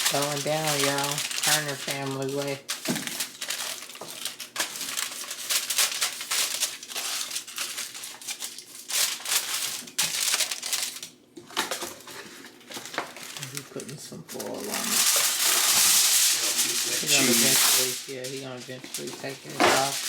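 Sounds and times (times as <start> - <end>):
aluminium foil crinkling: 0.0 - 20.0.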